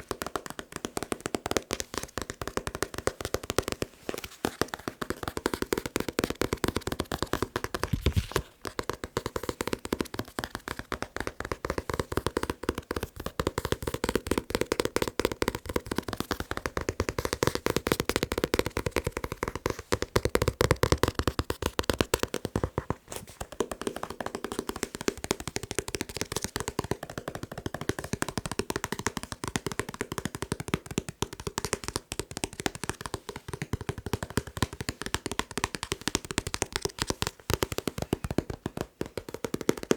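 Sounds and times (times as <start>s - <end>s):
fingers tapping fast on books: 0.0s - 39.9s.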